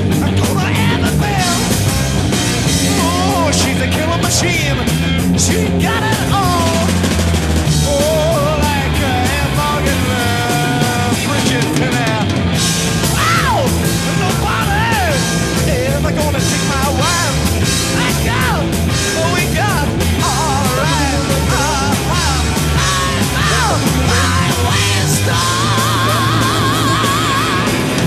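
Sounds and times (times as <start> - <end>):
driving drum beat: 0.0 - 28.0
rock song with singing: 0.0 - 28.0.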